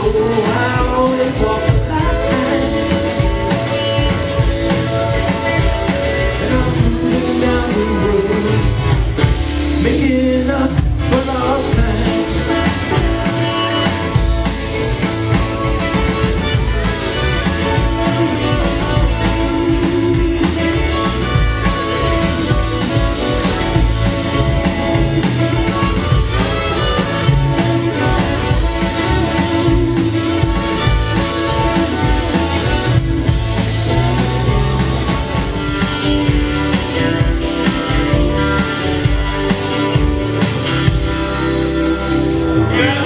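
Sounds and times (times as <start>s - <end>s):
live country band playing: 0.0s - 43.0s.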